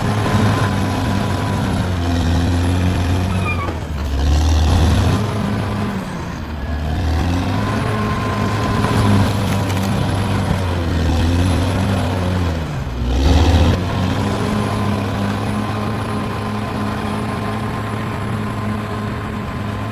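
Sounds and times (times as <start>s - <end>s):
bulldozer diesel engine under load: 0.0s - 19.9s.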